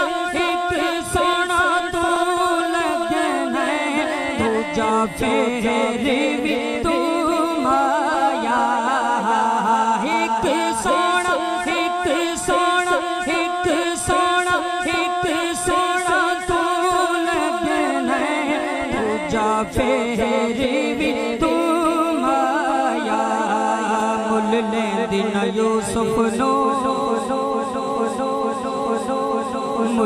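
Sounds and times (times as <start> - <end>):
man singing through microphone: 0.0 - 30.0.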